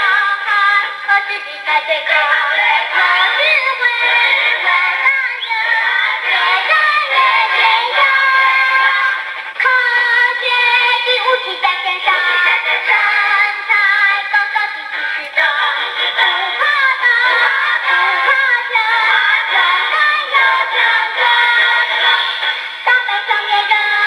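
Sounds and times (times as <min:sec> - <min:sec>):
song with sung vocals: 0:00.0 - 0:24.0.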